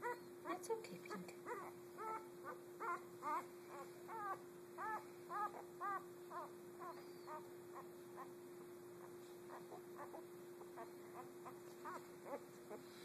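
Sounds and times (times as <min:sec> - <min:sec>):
puppy squeaking and whimpering: 0:00.0 - 0:00.3, 0:01.4 - 0:08.4, 0:09.0 - 0:12.9
faint steady hum: 0:00.0 - 0:13.0.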